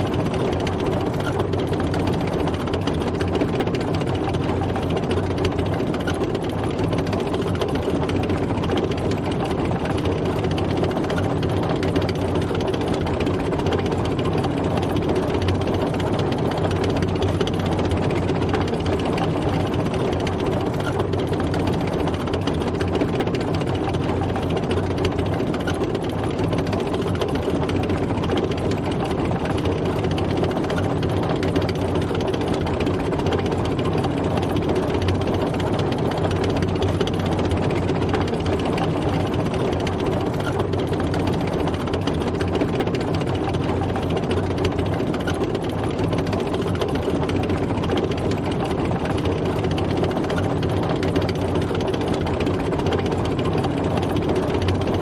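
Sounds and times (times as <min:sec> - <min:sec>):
tank engine running: 0:00.0 - 0:55.0.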